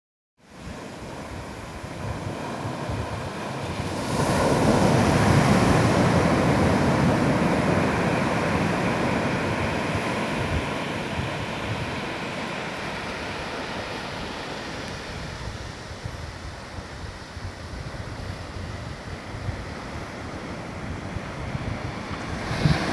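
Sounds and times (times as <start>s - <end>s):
surf breaking on a beach: 0.4s - 22.9s.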